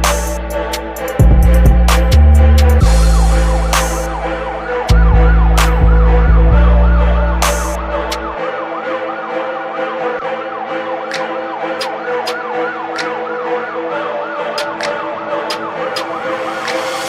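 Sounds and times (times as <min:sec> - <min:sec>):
siren yelping: 0:02.8 - 0:17.0.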